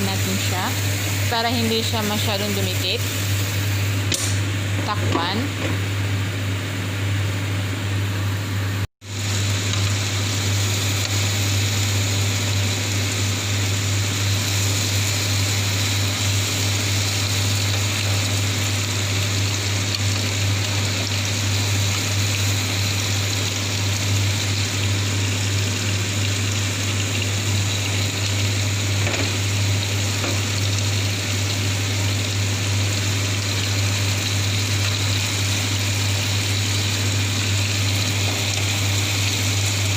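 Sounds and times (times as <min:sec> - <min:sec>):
kitchen appliance humming: 0:00.0 - 0:39.9.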